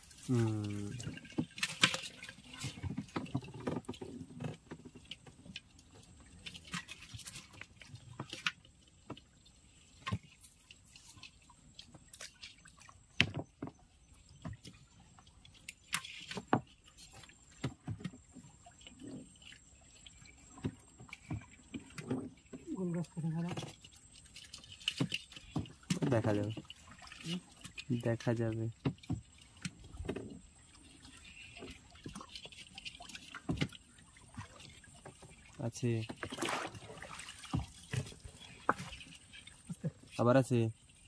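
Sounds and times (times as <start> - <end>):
water dripping and splashing: 0.0 - 41.0.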